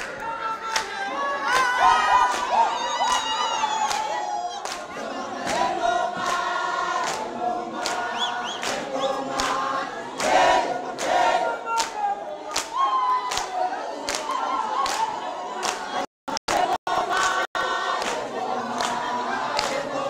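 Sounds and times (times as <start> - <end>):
crowd singing together: 0.0 - 20.0.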